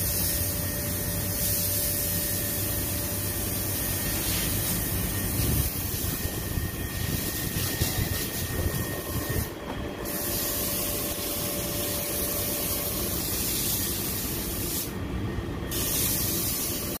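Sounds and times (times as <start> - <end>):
hose spraying on tiled floor: 0.0 - 15.0, 15.7 - 17.0.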